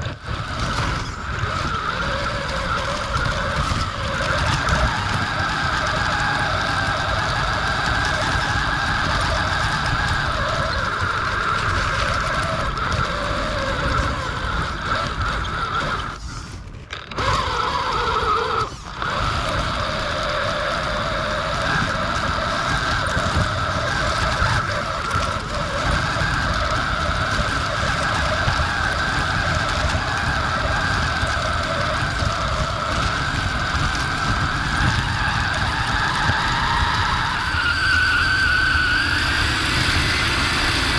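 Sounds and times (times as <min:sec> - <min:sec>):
electric motor and gears whining: 0:00.0 - 0:40.9.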